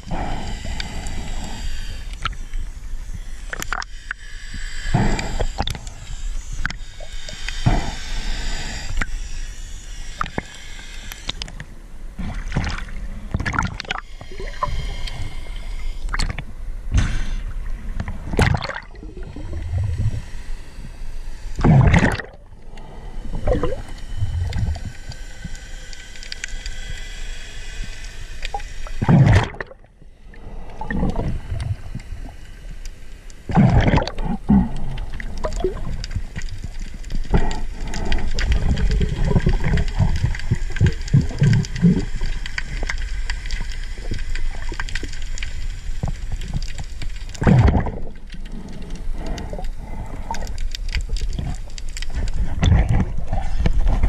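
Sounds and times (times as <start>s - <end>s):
underwater water gurgling: 0.0s - 54.0s.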